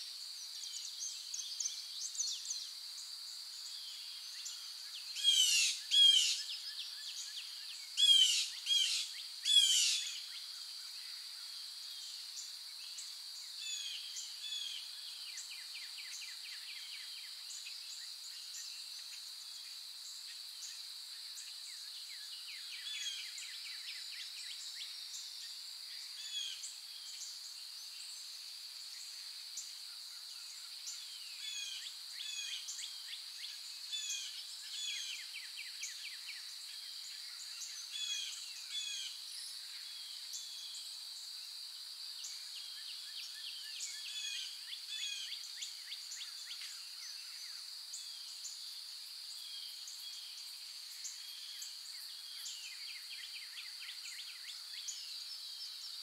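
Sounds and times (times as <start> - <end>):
steady high-pitched hiss: 0.0 - 56.0.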